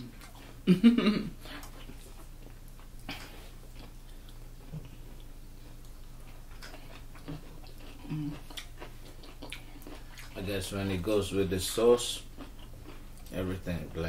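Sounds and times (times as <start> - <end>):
soft chewing: 0.0 - 0.6, 1.4 - 14.0
steady low hum: 0.0 - 14.0.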